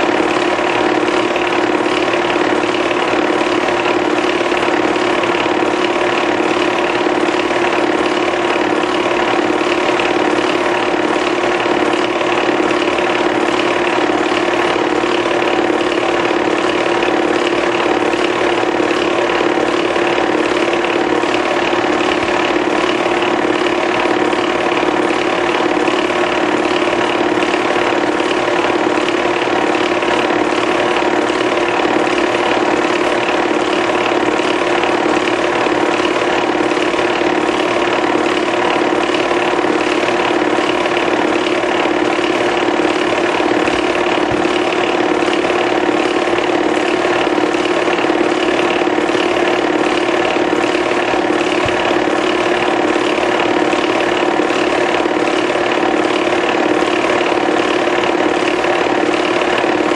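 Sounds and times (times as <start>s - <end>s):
film projector mechanical clatter: 0.0s - 59.9s
projector motor hum: 0.0s - 59.9s.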